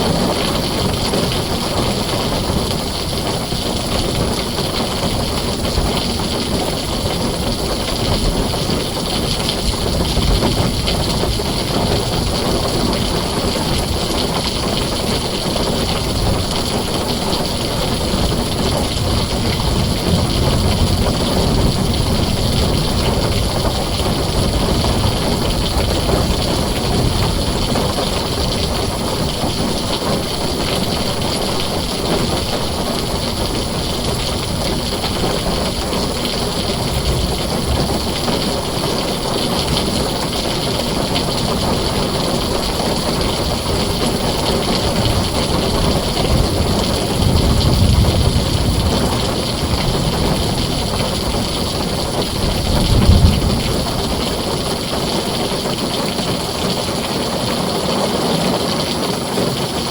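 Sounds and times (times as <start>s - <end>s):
low rumble of thunder: 0.0s - 57.1s
heavy rain on a tin roof: 0.0s - 59.9s.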